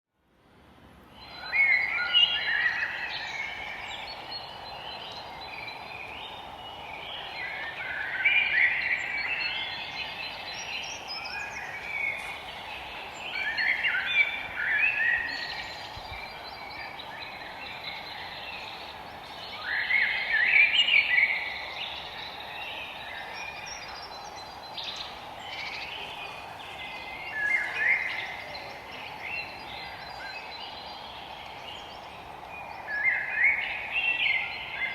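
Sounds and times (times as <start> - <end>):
steady background hiss: 0.2 - 34.9
forest birds singing: 1.0 - 34.9.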